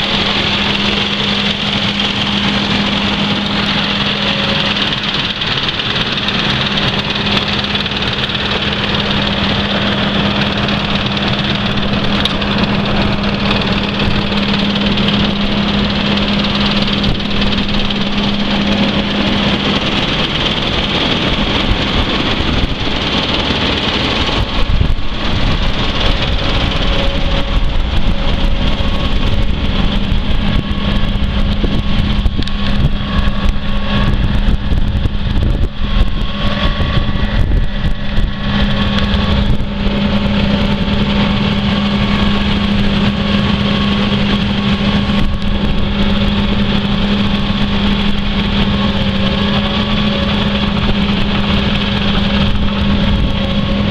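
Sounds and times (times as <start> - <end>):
tractor diesel engine droning: 0.0 - 53.9.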